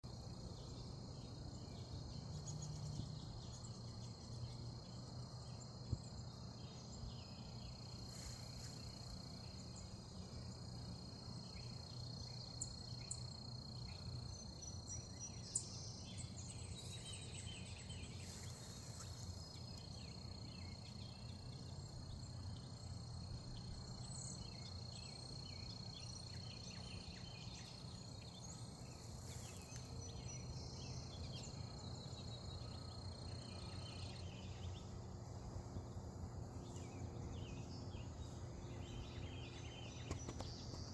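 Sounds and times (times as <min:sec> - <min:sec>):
small birds chirping: 0:00.1 - 0:35.1, 0:36.6 - 0:40.9.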